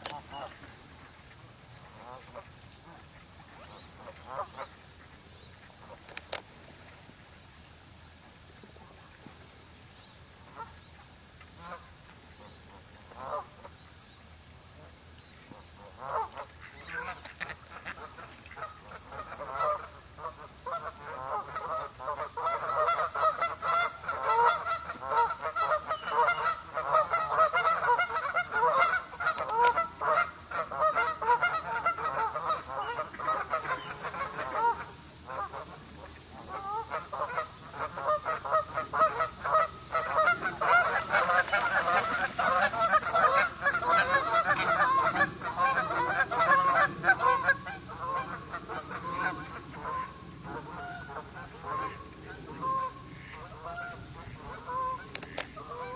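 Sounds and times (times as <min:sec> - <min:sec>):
waterfowl calling: 0:00.0 - 0:01.2, 0:01.9 - 0:06.4, 0:15.5 - 0:55.9.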